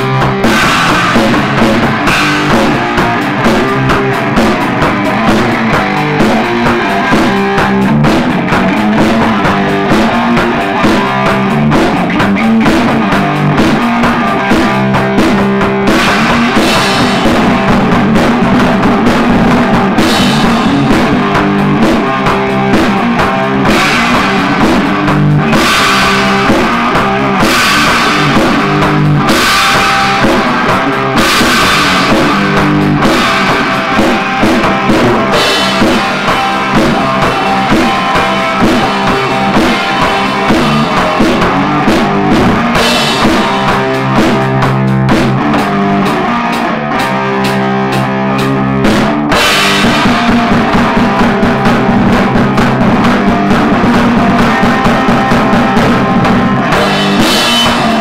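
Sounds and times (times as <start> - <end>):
loud rock music: 0.0 - 58.0.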